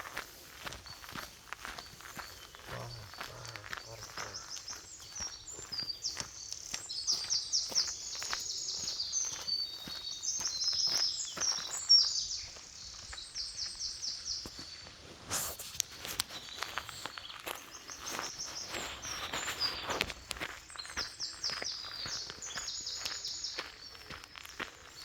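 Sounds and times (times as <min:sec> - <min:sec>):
songbirds trilling: 0:00.0 - 0:15.0, 0:15.9 - 0:25.0
footsteps on woodland path: 0:00.0 - 0:25.0.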